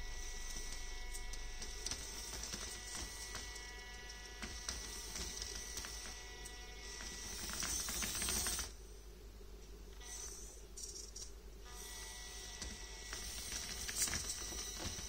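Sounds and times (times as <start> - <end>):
small electric motor whining: 0.0 - 8.8, 10.0 - 15.0.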